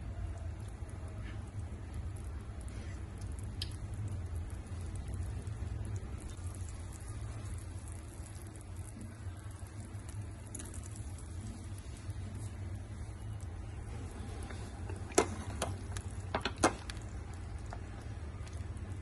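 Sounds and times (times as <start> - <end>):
soup bubbling in a pot: 0.0 - 19.0.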